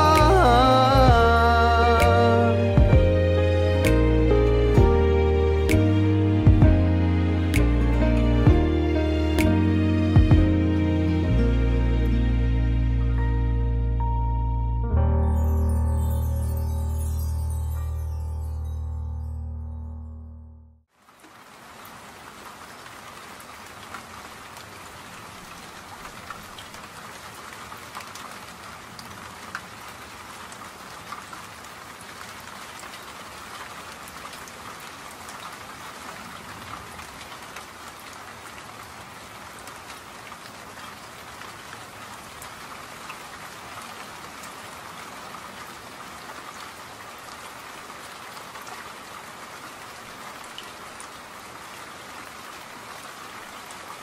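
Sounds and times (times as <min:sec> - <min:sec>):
steady rain falling: 0:00.0 - 0:14.1, 0:20.9 - 0:54.0.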